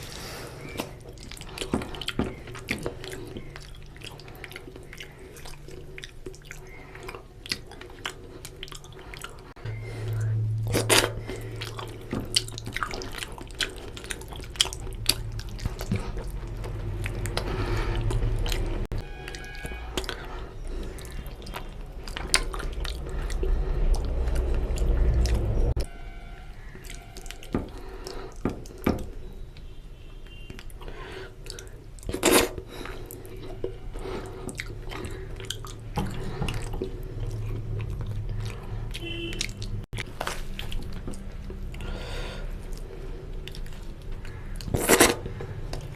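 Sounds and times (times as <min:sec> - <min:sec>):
wet chewing and lip-smacking: 0:00.0 - 0:25.8, 0:26.8 - 0:29.7, 0:30.5 - 0:45.9
low steady hum: 0:00.0 - 0:45.9.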